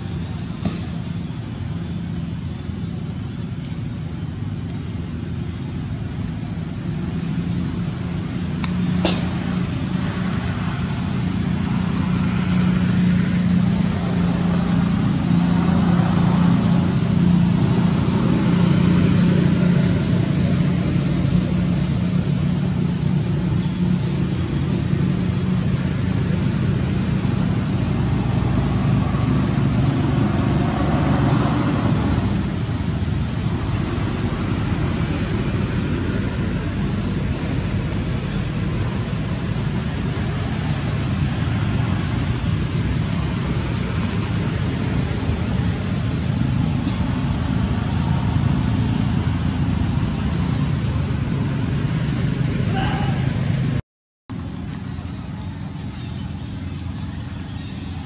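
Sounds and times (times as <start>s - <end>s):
low motor drone: 0.0s - 52.8s
traffic noise: 0.0s - 58.0s.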